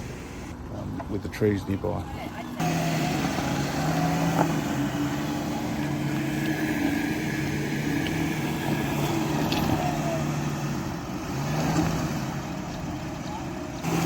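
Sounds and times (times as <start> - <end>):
engine droning under load: 0.0 - 14.0.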